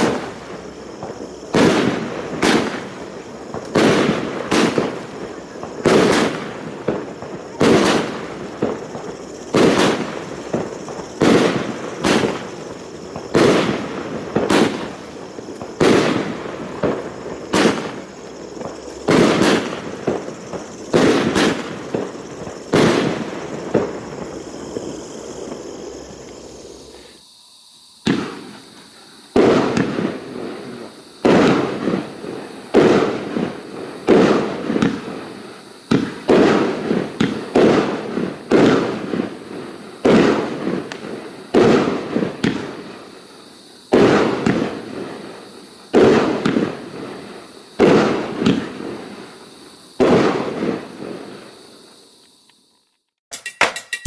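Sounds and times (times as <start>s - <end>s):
firework bangs: 0.0s - 27.2s, 28.0s - 43.0s, 43.9s - 45.3s, 45.9s - 49.3s, 50.0s - 51.4s.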